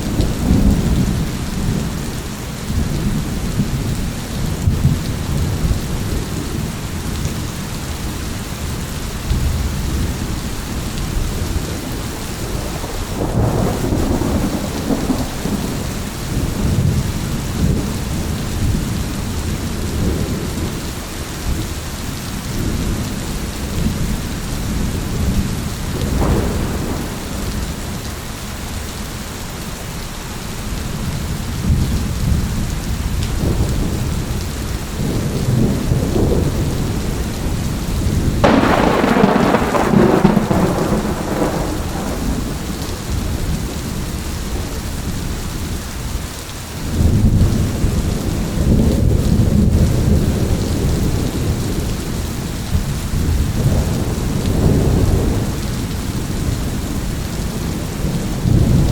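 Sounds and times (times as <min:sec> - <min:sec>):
rolling thunder: 0:00.0 - 0:07.2, 0:09.3 - 0:20.9, 0:22.4 - 0:28.2, 0:31.0 - 0:46.2, 0:46.8 - 0:58.9
heavy rain: 0:00.0 - 0:58.9.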